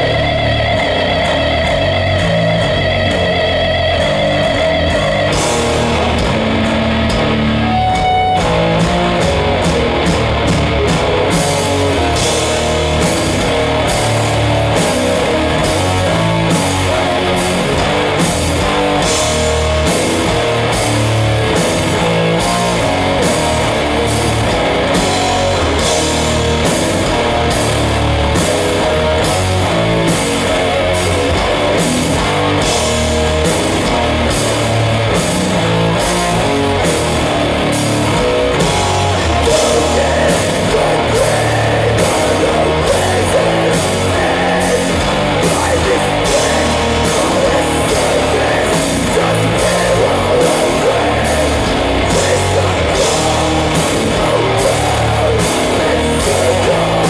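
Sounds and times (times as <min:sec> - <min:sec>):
fast driving drum beat: 0:00.0 - 0:57.0
heavy metal band playing live: 0:00.0 - 0:57.0.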